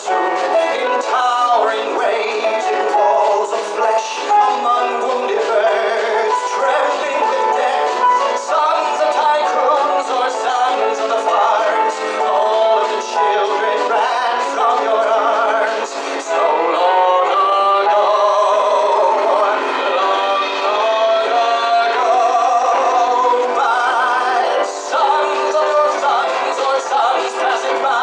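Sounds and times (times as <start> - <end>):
band accompaniment: 0.0 - 28.0
man singing with vibrato: 0.0 - 28.0.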